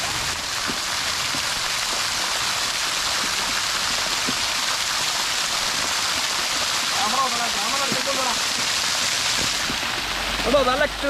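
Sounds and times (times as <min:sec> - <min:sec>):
water spray splashing hiss: 0:00.0 - 0:11.0.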